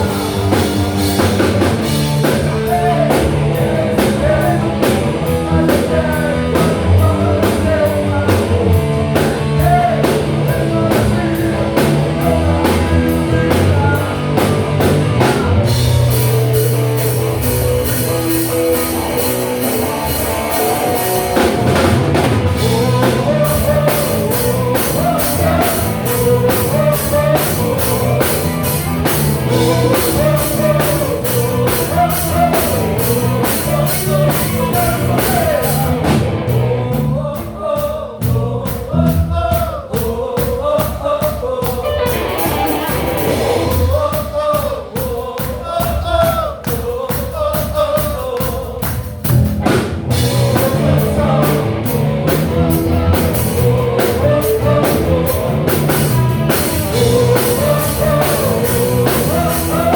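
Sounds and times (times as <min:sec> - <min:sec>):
live rock band playing: 0:00.0 - 0:39.6, 0:41.4 - 0:46.0, 0:48.8 - 0:59.9.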